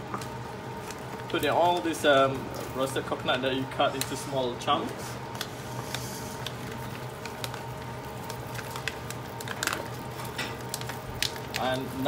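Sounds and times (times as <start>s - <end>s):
steady low hum: 0.0s - 12.0s
plastic packaging crinkling: 0.2s - 12.0s.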